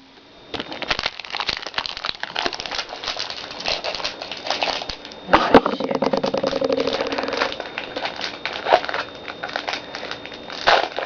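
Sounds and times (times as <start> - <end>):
foil wrapper crinkling: 0.6 - 11.0.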